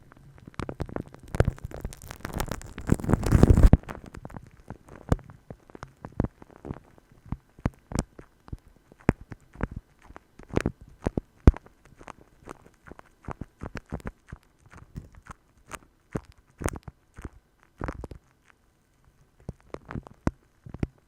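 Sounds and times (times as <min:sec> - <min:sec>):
light tapping and clicks: 0:00.1 - 0:21.0.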